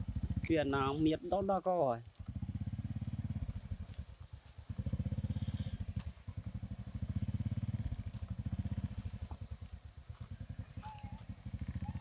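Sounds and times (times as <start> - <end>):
small motorcycle engine puttering: 0.0 - 1.1, 2.0 - 12.0.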